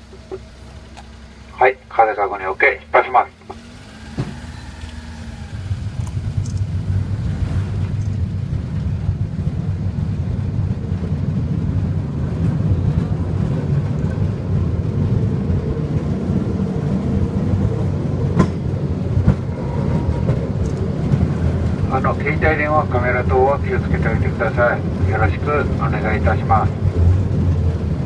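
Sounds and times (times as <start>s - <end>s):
rail cart rumbling on track: 0.0s - 28.0s.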